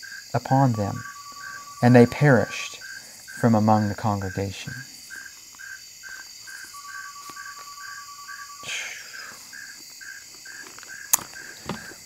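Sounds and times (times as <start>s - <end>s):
thin steady tone: 0.0s - 5.3s, 6.1s - 11.1s
crickets chirping: 0.0s - 12.0s
high insect buzz: 0.0s - 12.0s.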